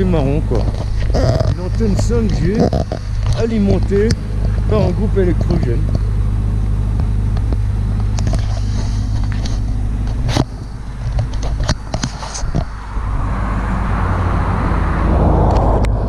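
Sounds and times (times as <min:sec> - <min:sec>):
generator engine humming: 0:00.0 - 0:15.3.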